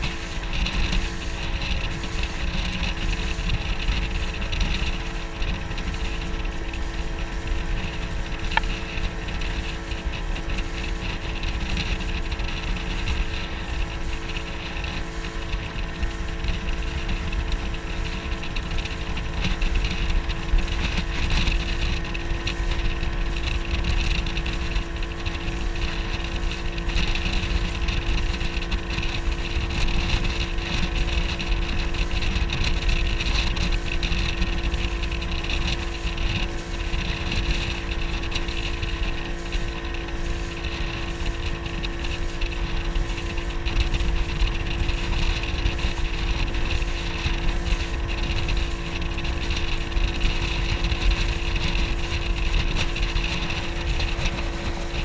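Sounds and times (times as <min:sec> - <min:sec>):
motorboat engine running: 0:00.0 - 0:55.0
wind rumbling on microphone: 0:00.0 - 0:55.0.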